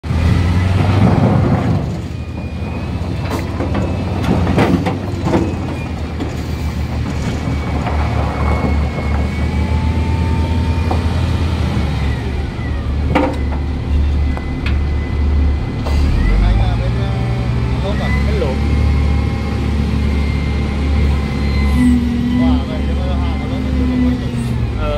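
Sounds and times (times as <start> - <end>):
diesel engine running under load: 0.0 - 24.9
loader bucket clunks and rattles: 0.1 - 22.6.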